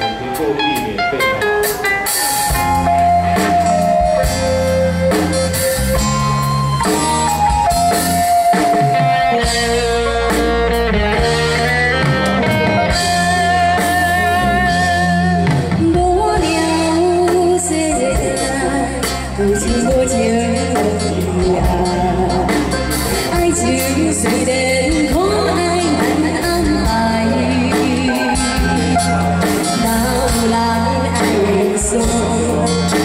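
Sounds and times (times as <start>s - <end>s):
bass: 0.0s - 33.0s
drum kit: 0.0s - 33.0s
guitar: 0.0s - 33.0s.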